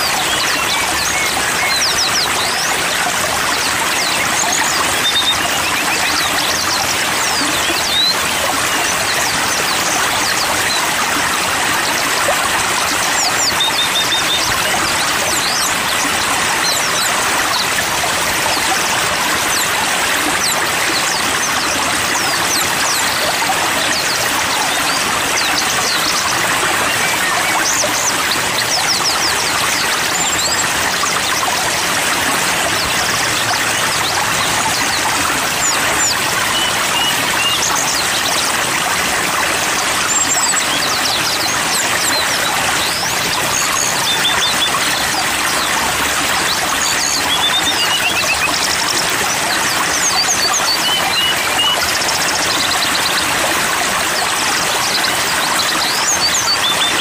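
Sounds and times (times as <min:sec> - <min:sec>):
flowing stream water: 0:00.0 - 0:57.0
songbirds chirping and trilling: 0:00.0 - 0:57.0.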